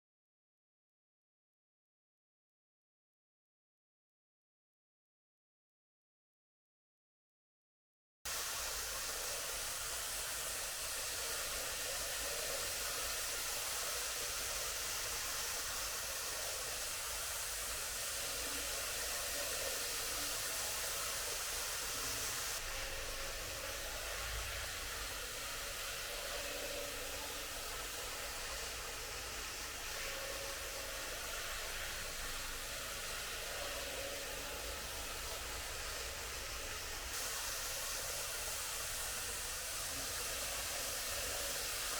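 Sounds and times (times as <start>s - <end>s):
model train whirring on track: 8.3s - 41.9s.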